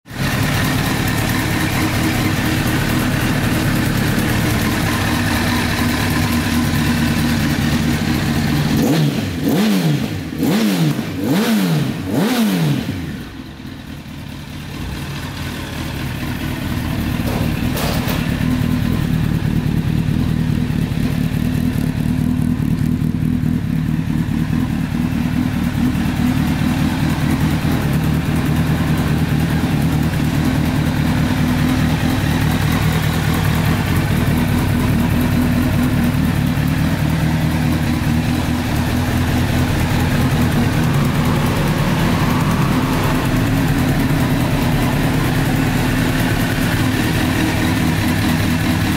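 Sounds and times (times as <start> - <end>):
motorcycle engine idling: 0.1 - 48.9
motorcycle engine revving: 0.1 - 48.9.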